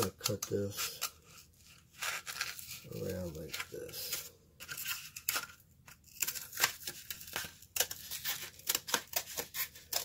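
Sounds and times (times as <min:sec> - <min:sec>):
scissors cutting cardboard: 0:02.0 - 0:10.0.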